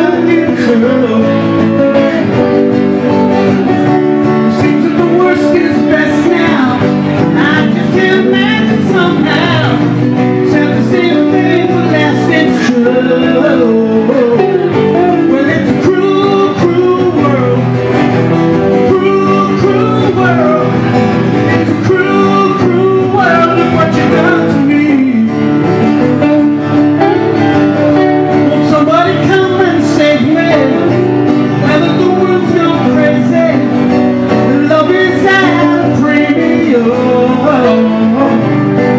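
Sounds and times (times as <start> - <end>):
man singing into microphone: 0.0 - 25.8, 28.1 - 38.9
acoustic guitar: 0.0 - 38.9.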